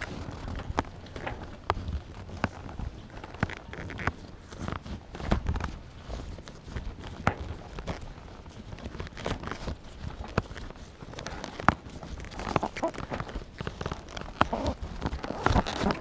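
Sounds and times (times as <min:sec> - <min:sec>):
rope and sailcloth rustling: 0:00.0 - 0:16.0.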